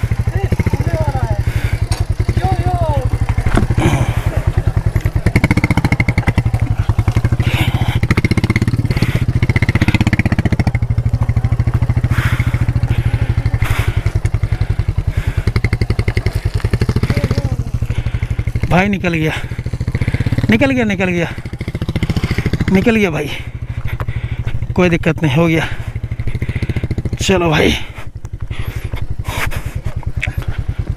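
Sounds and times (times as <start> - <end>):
motorcycle engine at low revs: 0.0 - 30.9.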